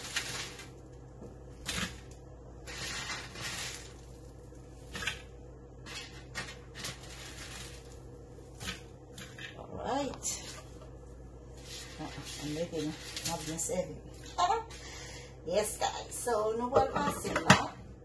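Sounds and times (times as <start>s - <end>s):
dry bread crackling and rustling: 0.0s - 14.8s.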